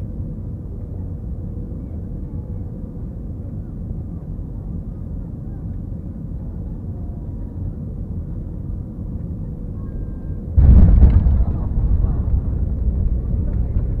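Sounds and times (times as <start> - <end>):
jet cabin rumble: 0.0 - 14.0.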